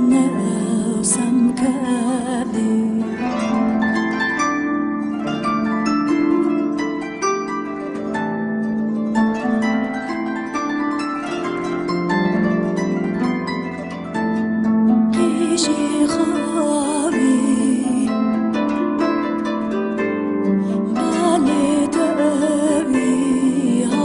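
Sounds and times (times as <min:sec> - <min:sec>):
harp plucked notes: 0:00.0 - 0:24.0.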